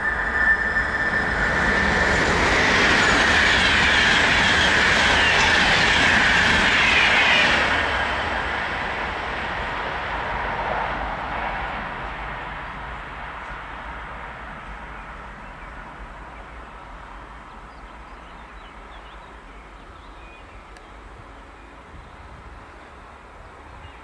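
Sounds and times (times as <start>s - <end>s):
train passing at high speed: 0.0s - 24.0s.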